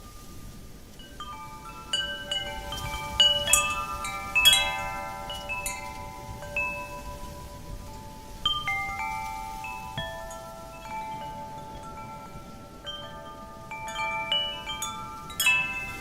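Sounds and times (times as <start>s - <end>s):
low rush of wind: 0.0s - 16.0s
wind chimes ringing: 0.0s - 16.0s.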